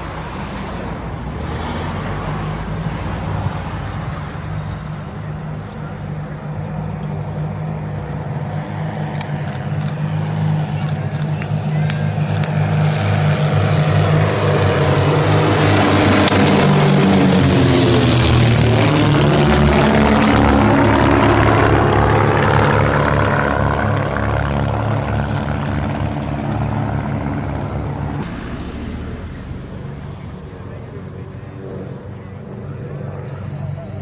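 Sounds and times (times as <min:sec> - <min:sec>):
propeller aircraft engine passing: 0:00.0 - 0:34.0.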